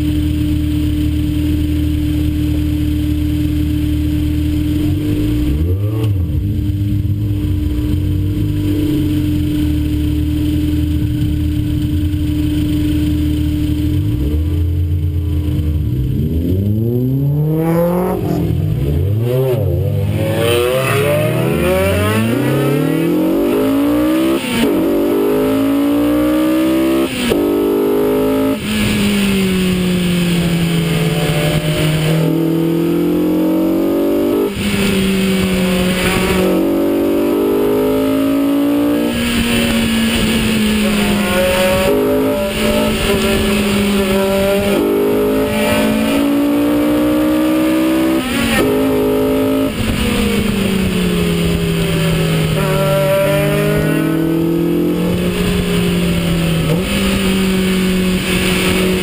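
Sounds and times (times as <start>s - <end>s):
road and wind noise: 0.0s - 59.0s
sports car engine revving: 0.0s - 59.0s.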